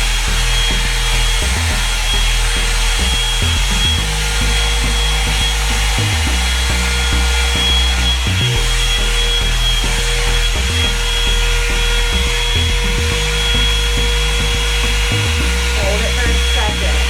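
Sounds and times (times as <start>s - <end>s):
hot-air dryer brush blowing: 0.0s - 17.0s.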